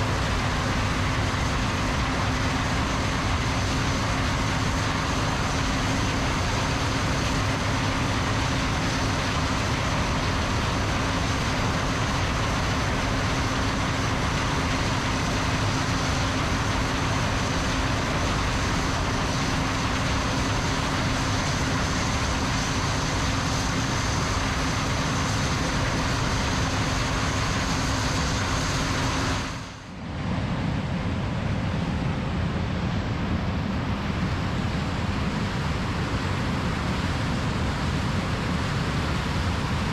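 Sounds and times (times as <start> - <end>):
harvest machinery engine drone: 0.0 - 39.9
steady machine hum: 0.0 - 39.9.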